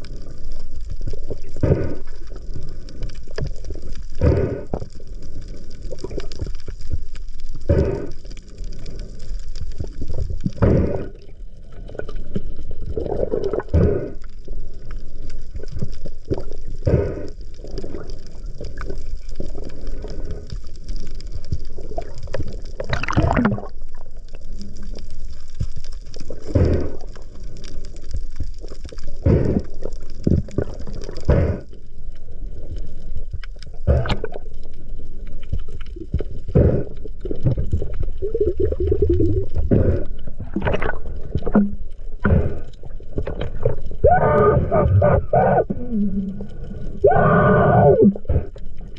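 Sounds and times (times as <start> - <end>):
water swishing and gurgling: 0.0 - 48.9.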